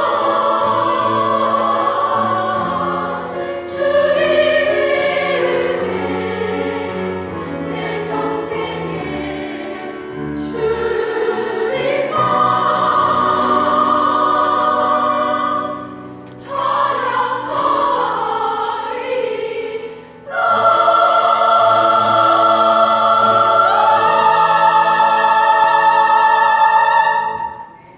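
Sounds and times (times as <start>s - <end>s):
vocal ensemble singing a hymn: 0.0s - 27.9s.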